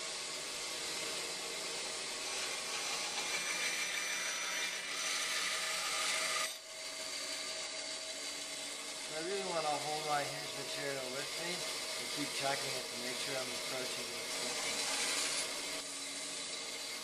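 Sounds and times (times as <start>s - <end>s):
bandsaw humming: 0.0s - 17.0s
saw blade cutting wood: 0.0s - 17.0s.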